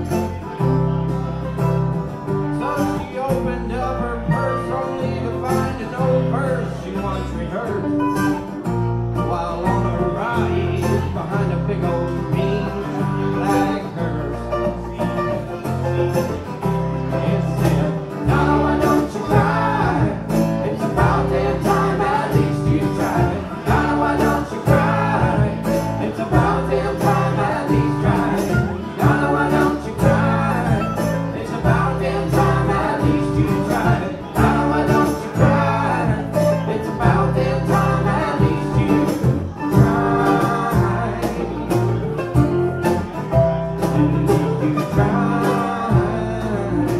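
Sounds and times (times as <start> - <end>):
live country band playing: 0.0 - 46.9.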